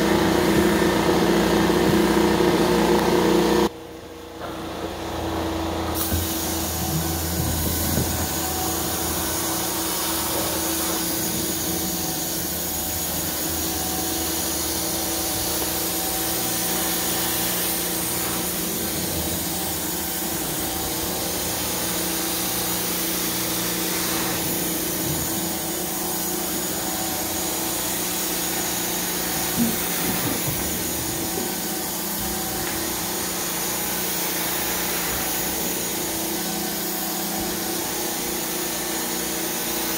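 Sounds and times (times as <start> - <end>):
carpet extractor vacuum running: 0.0 - 39.9.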